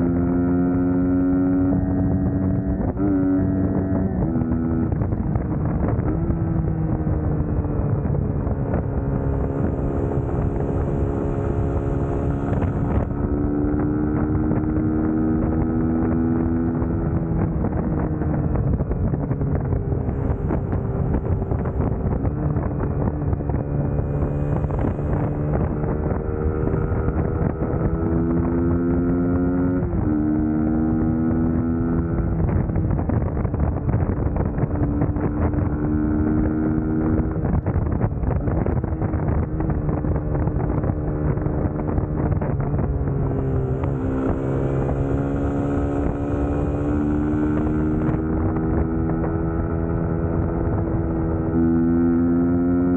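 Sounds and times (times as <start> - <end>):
motorcycle engine while riding: 0.0 - 52.9
wind on microphone: 0.0 - 52.9.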